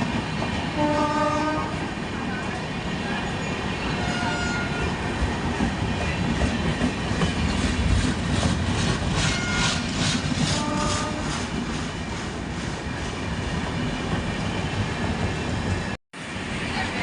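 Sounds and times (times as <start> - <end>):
train passing rumble: 0.0 - 17.0.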